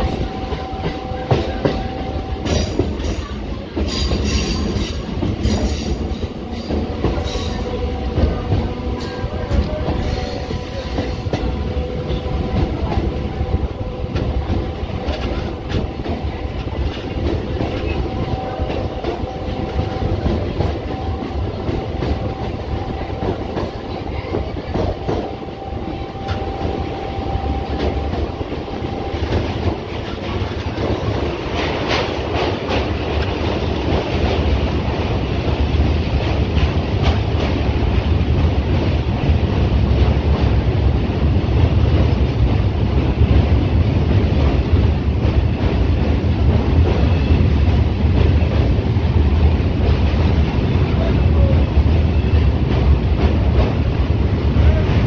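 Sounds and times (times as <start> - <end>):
train rumble with wheel clatter: 0.0 - 55.0.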